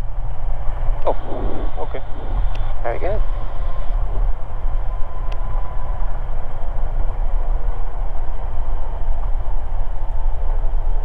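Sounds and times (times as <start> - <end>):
propeller plane engine rumble: 0.0 - 11.0.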